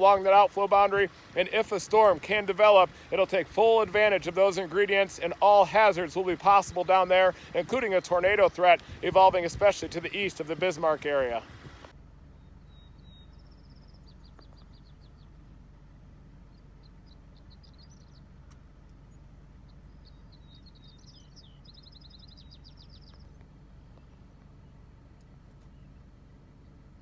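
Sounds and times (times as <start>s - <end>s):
songbird singing trilled phrases: 0.0s - 15.7s, 16.3s - 27.0s.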